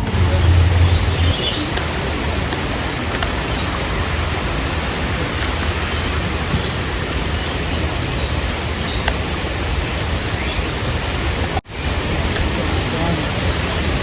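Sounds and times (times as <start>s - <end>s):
waterfall and stream rushing: 0.0s - 14.0s.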